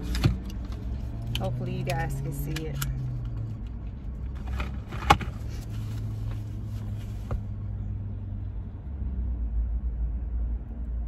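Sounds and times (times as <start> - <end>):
low hum inside a car: 0.0 - 11.0.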